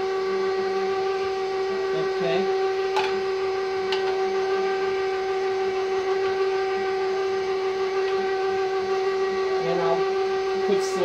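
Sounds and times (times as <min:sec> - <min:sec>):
meat grinder motor whine: 0:00.0 - 0:11.0.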